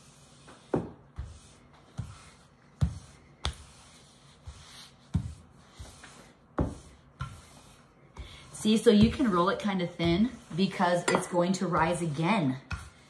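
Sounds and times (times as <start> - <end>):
rolling pin rubbing dough: 0.0 - 13.0.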